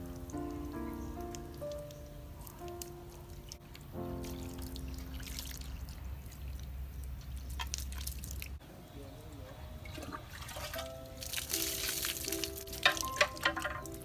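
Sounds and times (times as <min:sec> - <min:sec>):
soft background music: 0:00.0 - 0:06.6, 0:08.6 - 0:14.0
water pouring and splashing: 0:00.0 - 0:08.6, 0:09.8 - 0:14.0.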